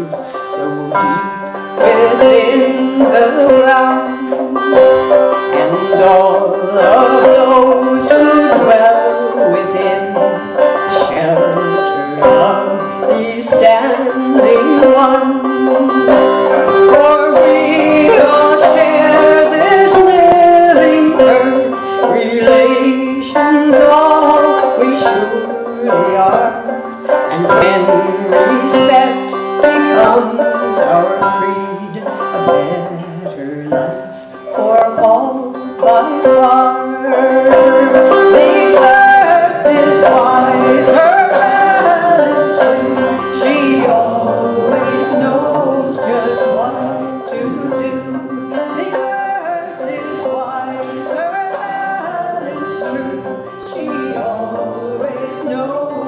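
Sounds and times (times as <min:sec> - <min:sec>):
plucked string instrument folk music: 0:00.0 - 0:56.0.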